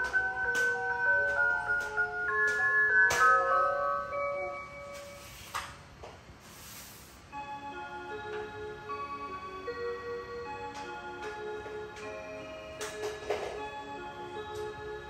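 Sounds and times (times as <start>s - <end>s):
clock chime melody: 0.0s - 5.4s, 7.3s - 15.0s.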